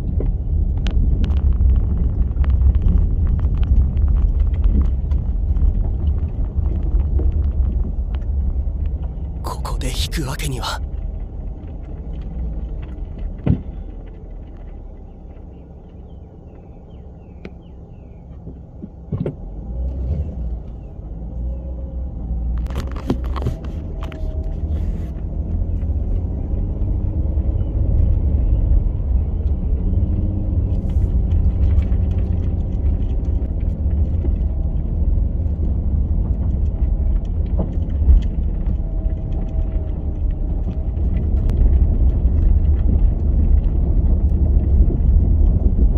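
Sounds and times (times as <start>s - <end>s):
car engine and tyres rumbling: 0.0s - 45.9s.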